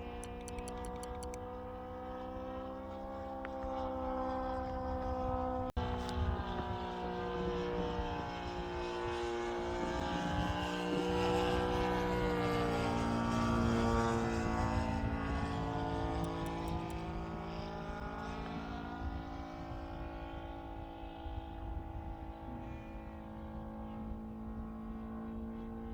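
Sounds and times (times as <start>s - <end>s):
model plane engine and propeller: 0.0s - 25.9s.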